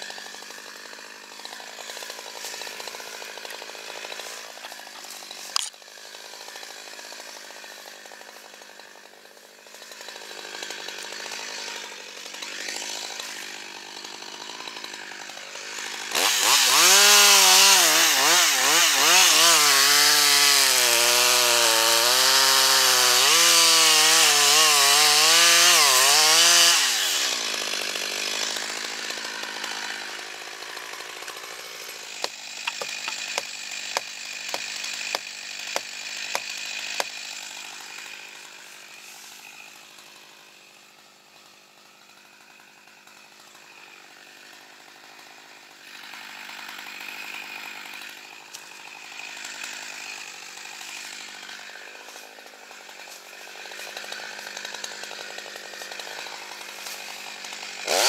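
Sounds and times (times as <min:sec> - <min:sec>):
chainsaw cutting wood: 0:00.0 - 0:58.0
chainsaw idling: 0:00.0 - 0:58.0.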